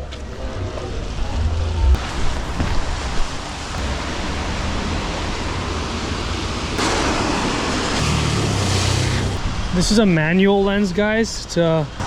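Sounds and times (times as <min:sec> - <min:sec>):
heavy rain falling: 0:00.0 - 0:10.2.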